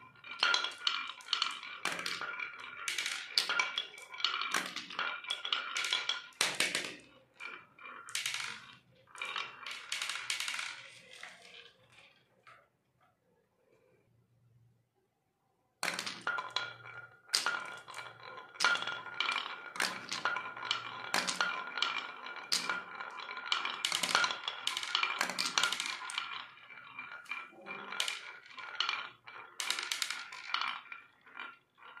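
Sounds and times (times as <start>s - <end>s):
marbles rattling down wooden track: 0.0s - 12.6s, 15.8s - 32.0s.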